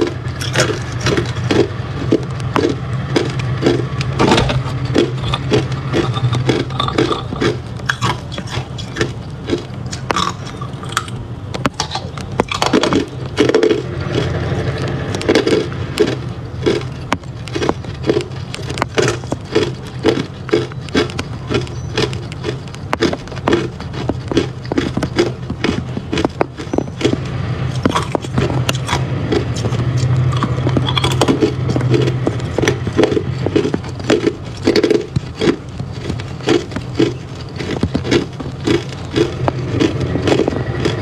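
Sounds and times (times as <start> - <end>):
ice crunching while chewed: 0.0 - 41.0.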